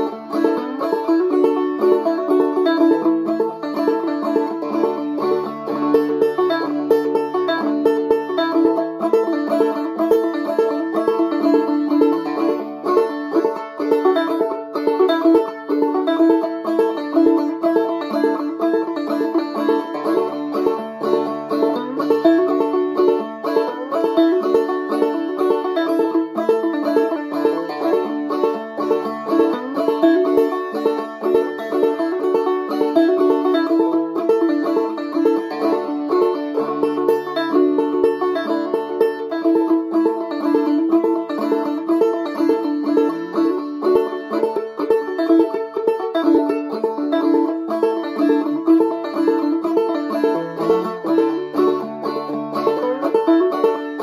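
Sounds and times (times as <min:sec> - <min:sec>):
banjo playing melody: 0:00.0 - 0:54.0.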